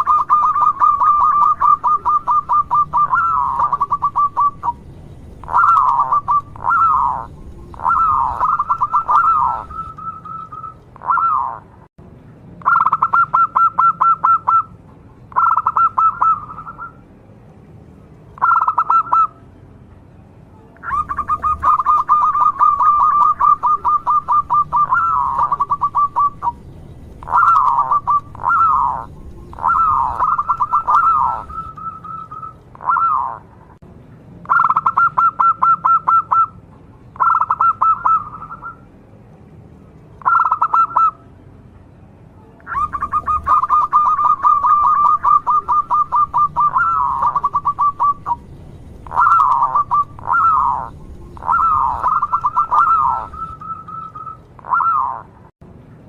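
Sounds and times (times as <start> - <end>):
dove trilling coos: 0.0 - 11.8, 12.6 - 14.7, 15.3 - 17.0, 18.4 - 19.4, 20.8 - 33.6, 34.5 - 36.6, 37.2 - 38.8, 40.2 - 41.2, 42.6 - 55.4.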